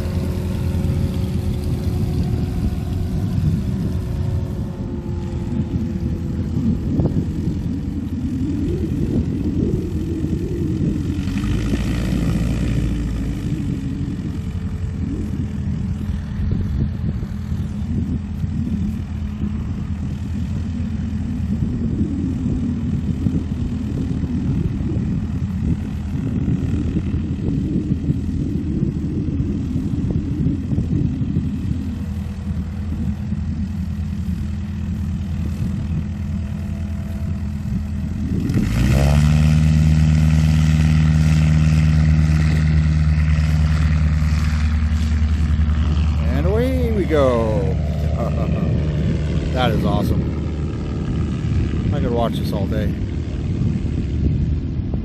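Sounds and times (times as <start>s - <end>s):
propeller plane engine: 0.0s - 55.0s.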